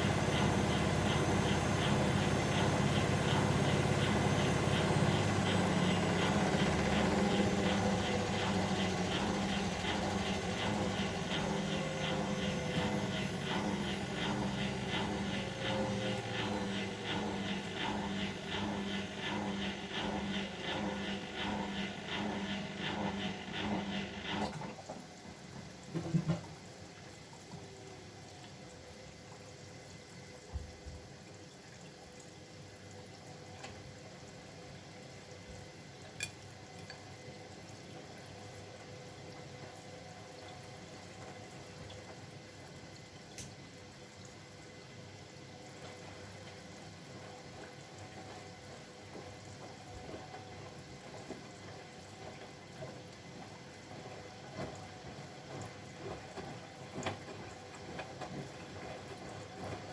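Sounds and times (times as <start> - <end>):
washing machine pulsing hum: 0.0 - 59.9
water running into machine: 0.0 - 59.9.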